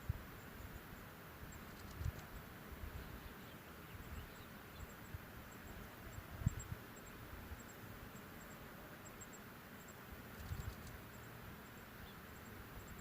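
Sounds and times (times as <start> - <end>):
insect chirps: 0.0 - 13.0.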